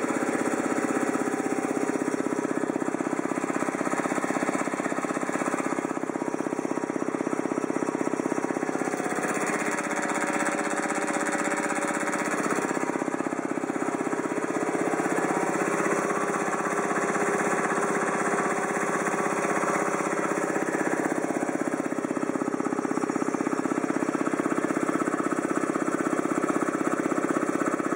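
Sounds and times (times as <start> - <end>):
piston air compressor running: 0.0 - 27.9.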